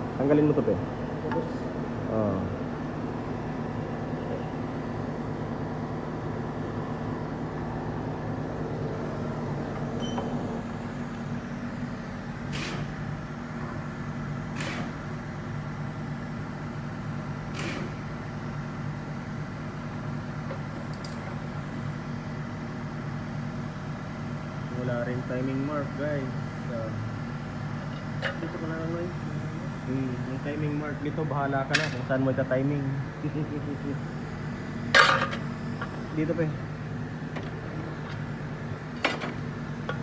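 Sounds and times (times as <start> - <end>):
machinery humming: 0.0 - 40.0.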